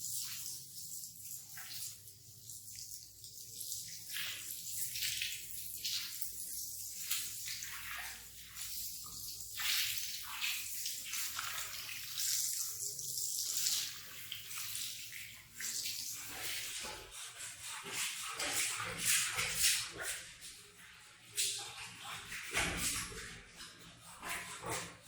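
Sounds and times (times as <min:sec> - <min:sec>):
water spraying on a wet rug: 0:00.0 - 0:20.5.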